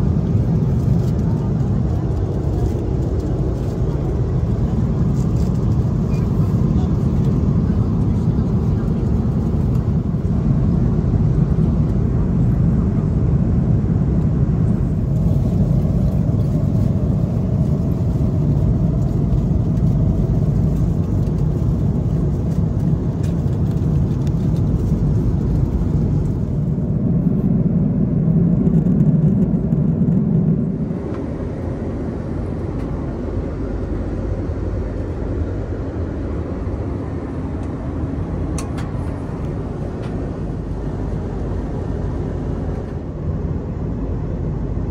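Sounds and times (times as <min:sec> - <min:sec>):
airplane cabin engine rumble: 0:00.0 - 0:44.9
dull hum inside lavatory: 0:00.0 - 0:44.9.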